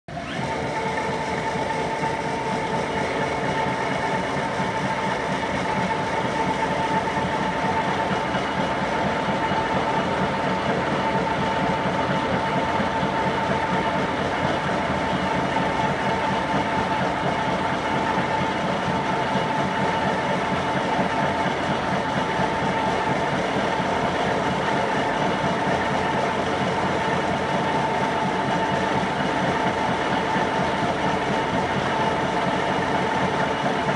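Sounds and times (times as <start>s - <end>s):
gear shaper machine humming: 0.1s - 33.9s.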